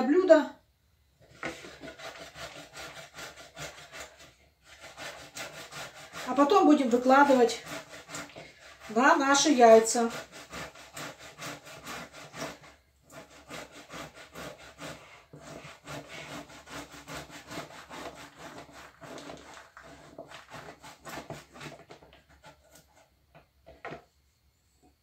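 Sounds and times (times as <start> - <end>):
carrot scraping on grater: 1.4 - 23.1.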